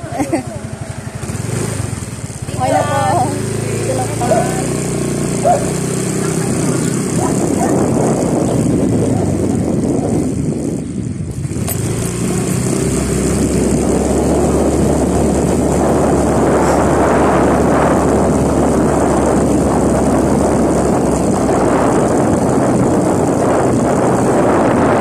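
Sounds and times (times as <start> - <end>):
motorcycle engine running: 0.0 - 25.0
road and wind rush: 0.0 - 25.0.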